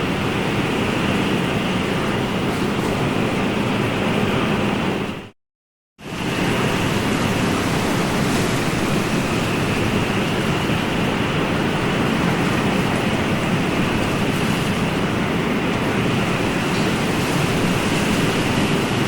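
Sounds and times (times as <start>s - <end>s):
waves breaking: 0.0s - 5.3s, 6.0s - 19.0s.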